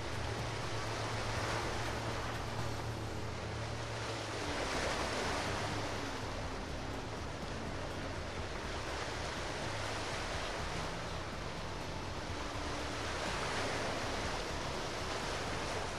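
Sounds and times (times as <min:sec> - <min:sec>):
sea water rushing: 0:00.0 - 0:15.9
wind: 0:00.0 - 0:15.9.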